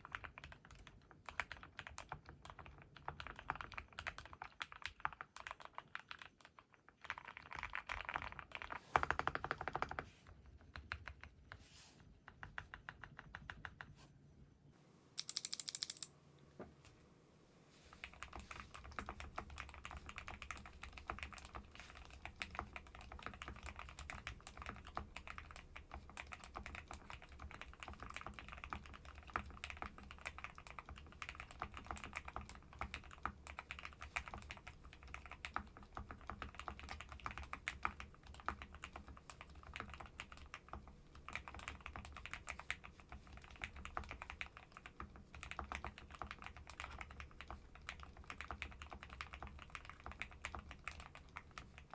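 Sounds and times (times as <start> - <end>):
typing on mechanical keyboard: 0.0 - 11.5, 12.3 - 13.9, 15.2 - 16.1, 17.9 - 51.9.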